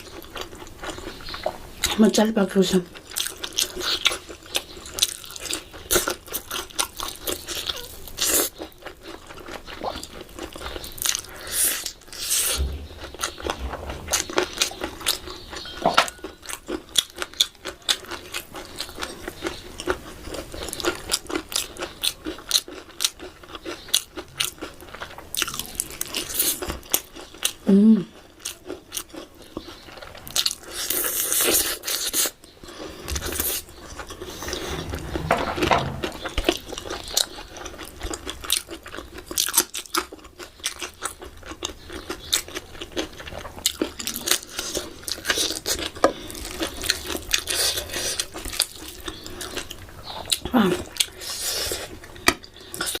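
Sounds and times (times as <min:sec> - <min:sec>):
biting and chewing: 0:02.9 - 0:53.0.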